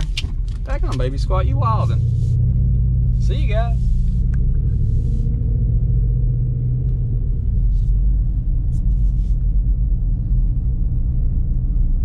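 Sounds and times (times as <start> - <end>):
pickup engine exhaust rumble: 0.0 - 12.0.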